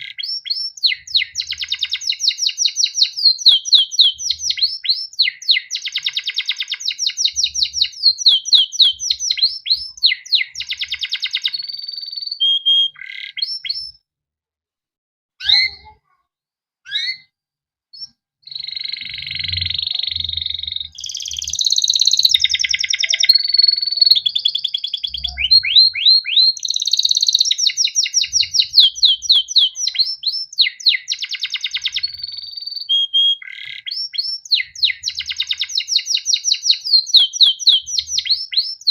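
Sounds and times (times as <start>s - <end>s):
canary singing trills: 0.0s - 14.0s, 15.4s - 16.1s, 16.9s - 17.3s, 17.9s - 38.9s.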